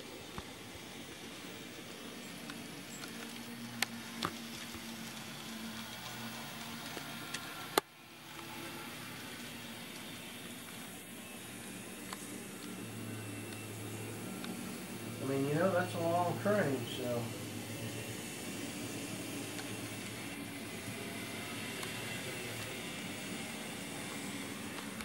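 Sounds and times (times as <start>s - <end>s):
model locomotive motor hum: 0.0s - 25.0s.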